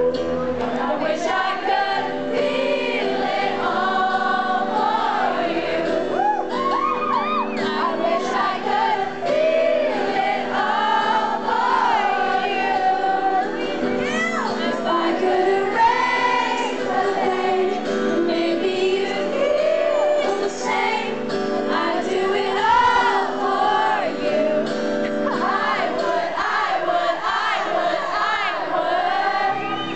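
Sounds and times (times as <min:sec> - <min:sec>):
person singing: 0:03.6 - 0:29.9.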